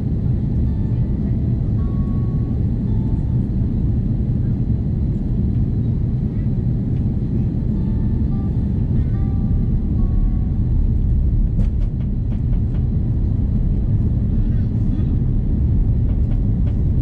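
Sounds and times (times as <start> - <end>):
airplane cabin rumble: 0.0 - 17.0.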